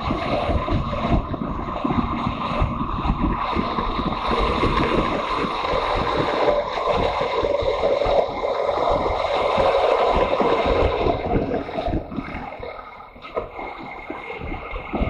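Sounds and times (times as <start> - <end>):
motorcycle engine hum: 0.0 - 12.2
wind buffeting microphone: 0.0 - 15.0.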